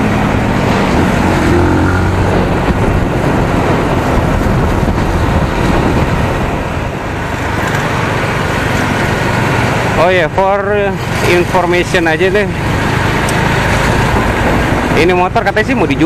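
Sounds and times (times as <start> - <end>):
wind noise: 0.0 - 10.0, 12.5 - 16.0
motorcycle engine running: 0.0 - 16.0
road noise: 0.0 - 16.0.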